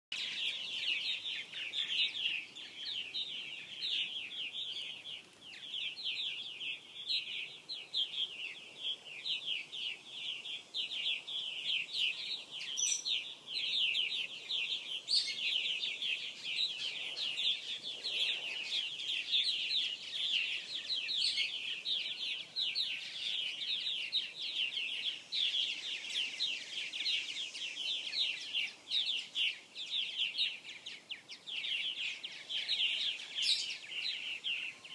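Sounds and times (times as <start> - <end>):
birds chirping in dense chorus: 0.1 - 34.9.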